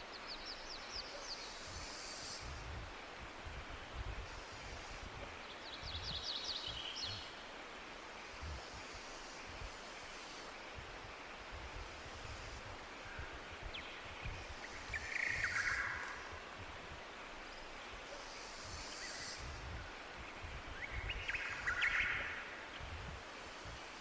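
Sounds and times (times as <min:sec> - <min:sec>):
tropical birds chirping: 0:00.0 - 0:02.6, 0:04.3 - 0:11.6, 0:12.2 - 0:16.6, 0:17.4 - 0:23.0.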